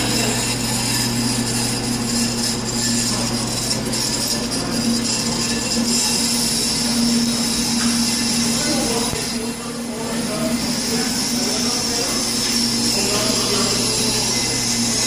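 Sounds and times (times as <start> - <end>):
high metallic cutting whine: 0.0 - 15.0
motor hum: 0.0 - 15.0.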